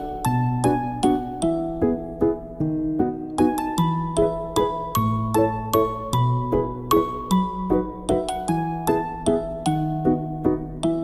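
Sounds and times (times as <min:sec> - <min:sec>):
gentle melody of ringing notes: 0:00.0 - 0:11.0.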